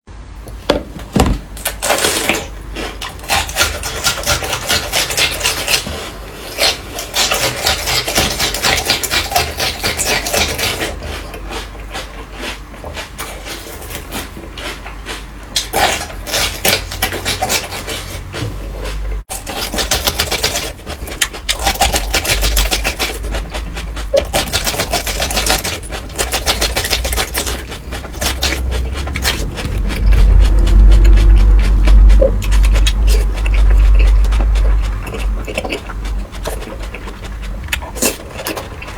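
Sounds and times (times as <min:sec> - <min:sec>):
chewing and mouth noises: 0:01.5 - 0:38.9.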